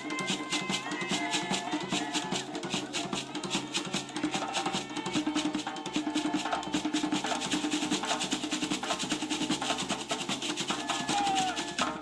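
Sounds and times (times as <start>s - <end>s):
fast dance drumming: 0.0s - 12.0s.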